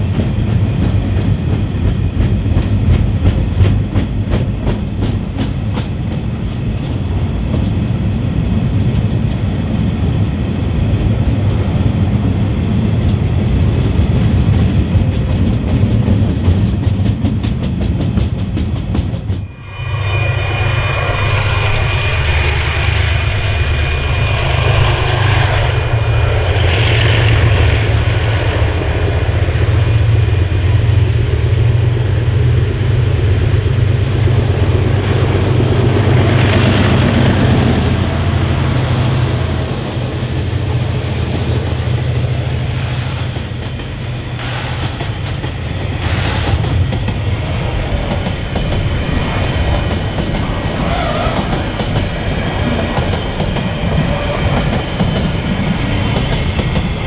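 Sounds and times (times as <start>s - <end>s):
diesel locomotive engine drone: 0.0s - 57.0s
train wheels clicking over rail joints: 0.0s - 57.0s.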